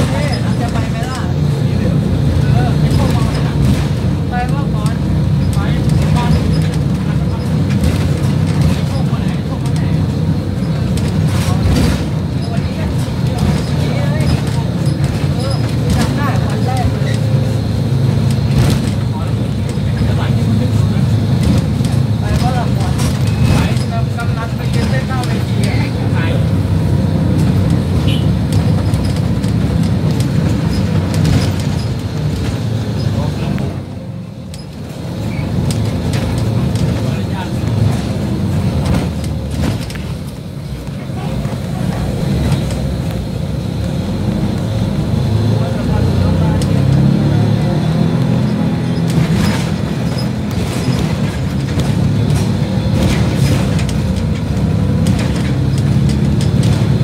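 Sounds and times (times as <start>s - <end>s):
bus body clicks and rattles: 0.0s - 57.0s
bus engine and road rumble: 0.0s - 57.0s.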